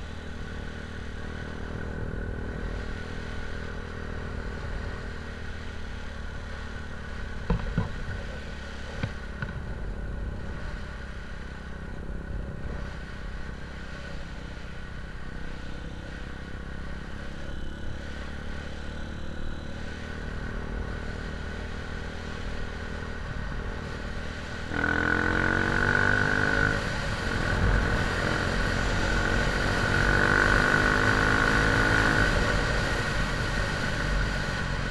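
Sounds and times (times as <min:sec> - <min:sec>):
engine revving with high whine: 0:00.0 - 0:34.9
vehicle engine running: 0:00.0 - 0:34.9.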